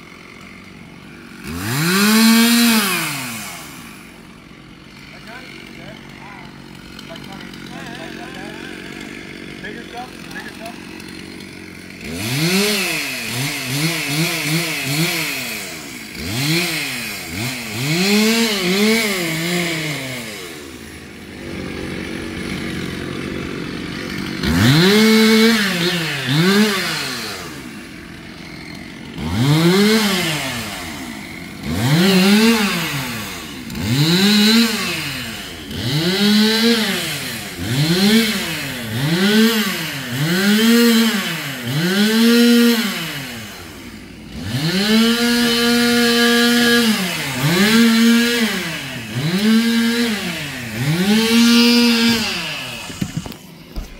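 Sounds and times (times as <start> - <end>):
chainsaw revving: 0.0 - 53.9.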